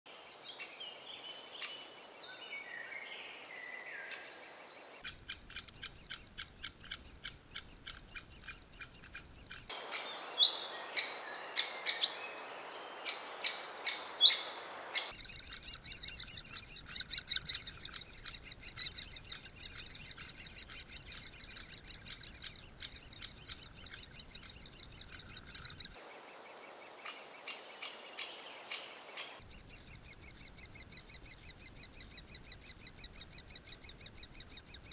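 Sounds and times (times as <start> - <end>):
birds singing: 0.1 - 34.9
woodpecker nestlings chattering: 4.8 - 34.9.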